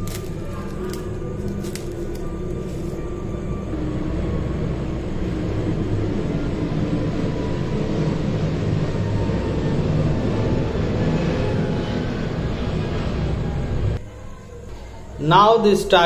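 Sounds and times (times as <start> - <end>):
low droning music: 0.0 - 16.0.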